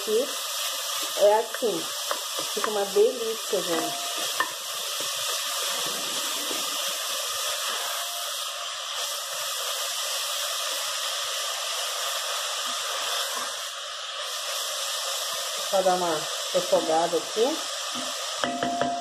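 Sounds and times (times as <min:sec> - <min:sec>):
meat sizzling in a pot: 0:00.0 - 0:19.0.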